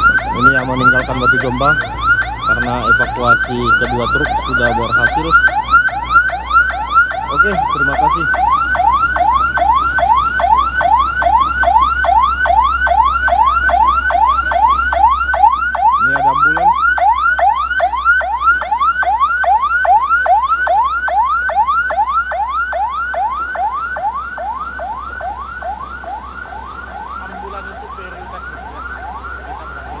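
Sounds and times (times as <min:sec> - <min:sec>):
electronic siren yelping: 0:00.0 - 0:30.0.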